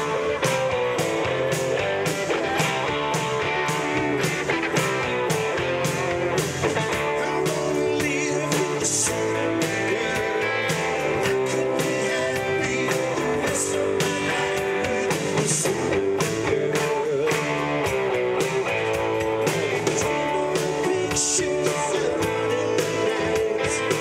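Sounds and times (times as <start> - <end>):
bass guitar: 0.0 - 24.0
electric guitars: 0.0 - 24.0
steady drum beat: 0.0 - 24.0.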